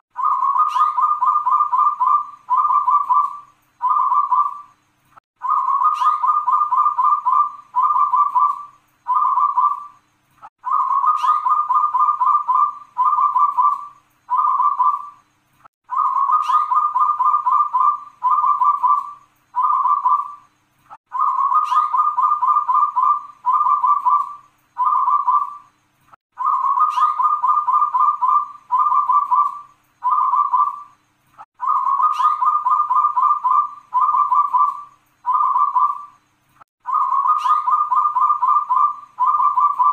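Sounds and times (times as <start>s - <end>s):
dove cooing: 0.0s - 4.7s, 5.4s - 10.0s, 10.6s - 15.2s, 15.9s - 20.4s, 21.1s - 25.6s, 26.4s - 31.0s, 31.6s - 36.1s, 36.8s - 39.9s.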